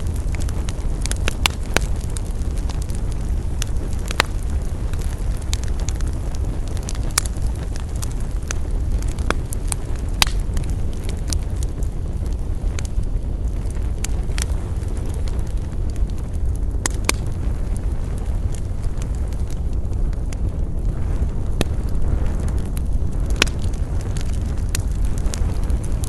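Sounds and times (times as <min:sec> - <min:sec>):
campfire crackling and popping: 0:00.0 - 0:26.0
low rumble: 0:00.0 - 0:26.0.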